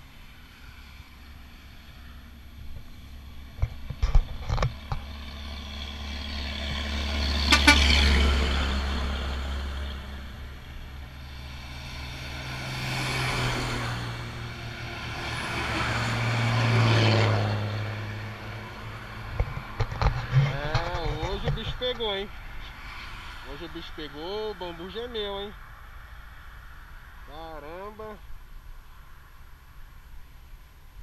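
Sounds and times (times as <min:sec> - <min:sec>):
trucks and cars passing: 0:00.0 - 0:31.0.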